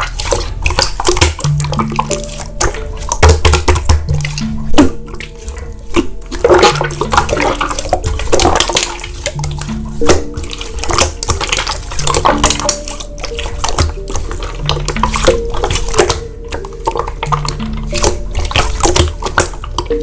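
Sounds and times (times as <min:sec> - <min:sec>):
slime squelching: 0:00.0 - 0:20.0
slow held music chords: 0:00.0 - 0:20.0.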